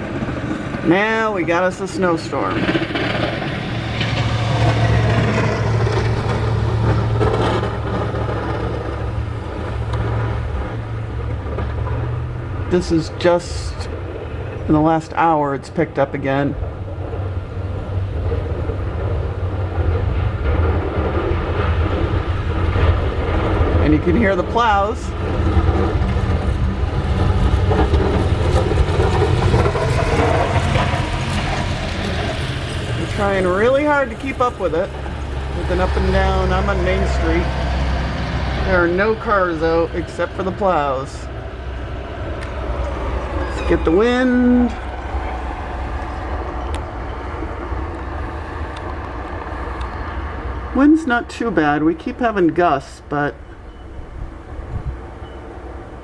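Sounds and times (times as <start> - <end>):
truck engine humming: 0.0 - 56.0
wind noise: 0.0 - 56.0.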